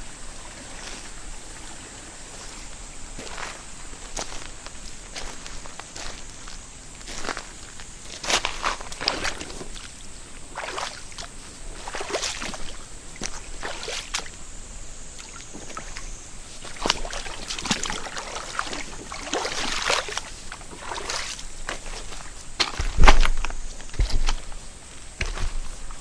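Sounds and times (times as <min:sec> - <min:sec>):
stream flowing: 0:00.0 - 0:26.0
footsteps sloshing in water: 0:00.4 - 0:14.4, 0:15.2 - 0:24.6.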